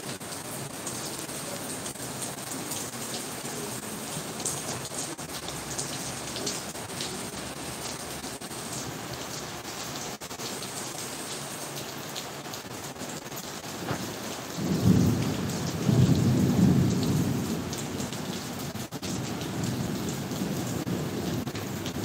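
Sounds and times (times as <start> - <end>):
heavy rain pattering: 0.0 - 22.0.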